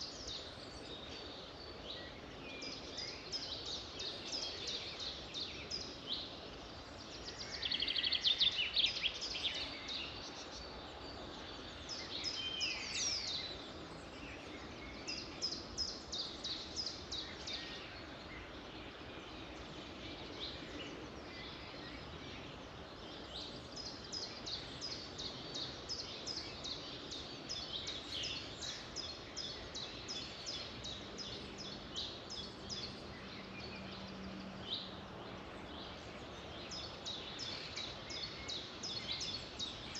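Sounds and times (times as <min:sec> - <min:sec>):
birds singing and calling: 0:00.0 - 0:39.9
steady background hiss: 0:00.0 - 0:39.9.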